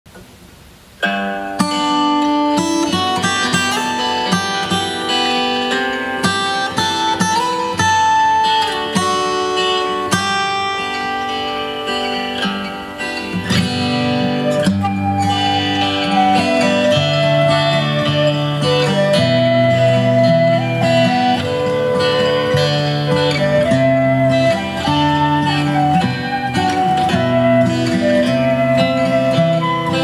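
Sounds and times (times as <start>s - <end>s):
fingerpicked acoustic guitar: 1.0s - 30.0s
flute melody: 1.7s - 30.0s.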